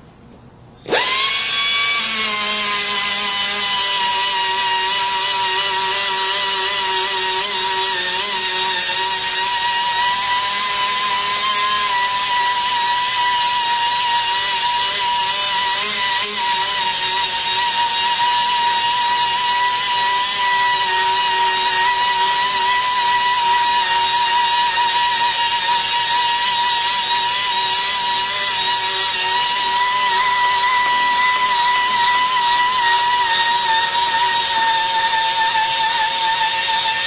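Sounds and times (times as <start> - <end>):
pneumatic sander whining: 0.8 - 37.0.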